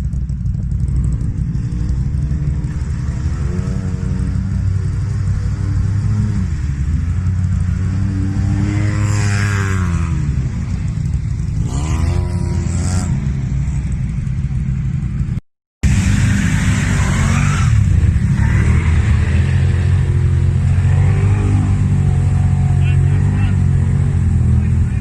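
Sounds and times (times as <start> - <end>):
off-road vehicle engine rumbling: 0.0 - 25.0.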